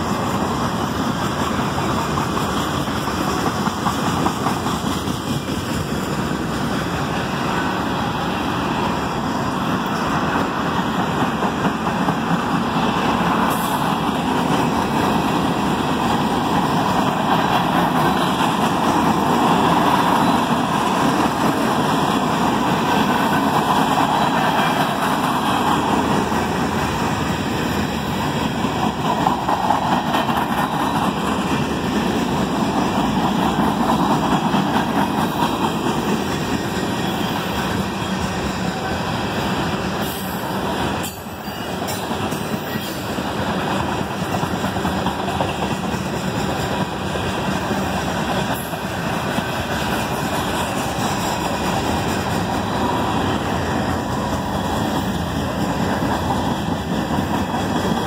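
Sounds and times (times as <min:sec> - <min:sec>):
train wheels rolling on track: 0:00.0 - 0:58.0.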